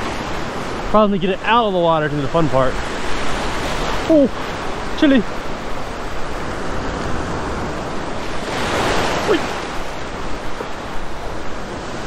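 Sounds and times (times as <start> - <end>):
surf washing in shallow water: 0.0 - 12.0
wave surging in: 0.0 - 12.0.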